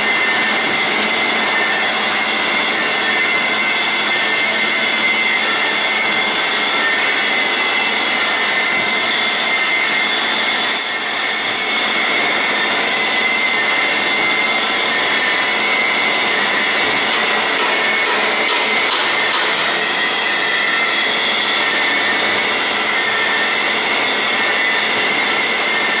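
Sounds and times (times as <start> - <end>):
machine clatter and hum: 0.0 - 10.7, 11.8 - 26.0
high machine whine: 0.0 - 26.0.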